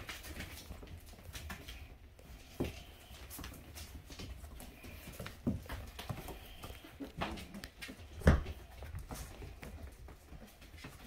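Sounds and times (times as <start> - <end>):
puppies paws scrabbling: 0.0 - 11.0.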